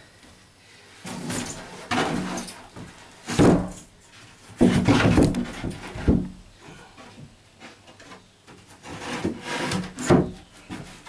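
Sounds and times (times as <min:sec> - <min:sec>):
wood bumping and scraping: 0:01.0 - 0:11.0.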